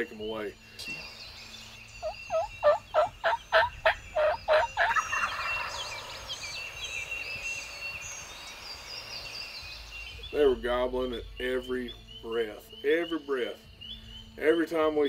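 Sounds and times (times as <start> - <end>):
small birds chirping: 0.0 - 15.0
wild turkey calling: 1.9 - 15.0.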